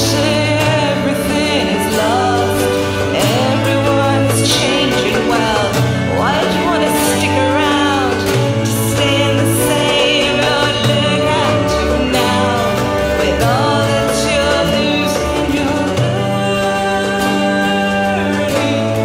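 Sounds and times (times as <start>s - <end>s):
acoustic guitar: 0.0s - 19.0s
woman singing: 0.0s - 19.0s.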